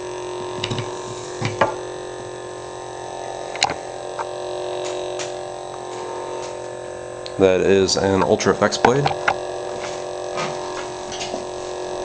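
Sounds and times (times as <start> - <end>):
lightsaber idle hum: 0.0 - 12.0.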